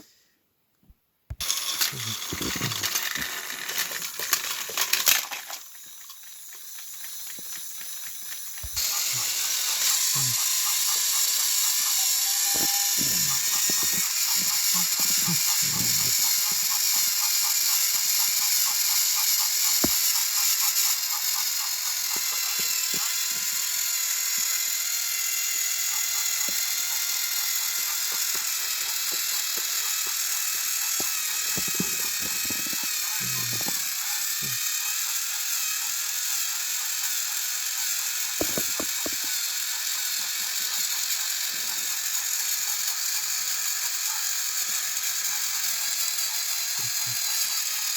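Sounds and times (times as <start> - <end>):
toy train motors whirring: 1.3 - 47.9.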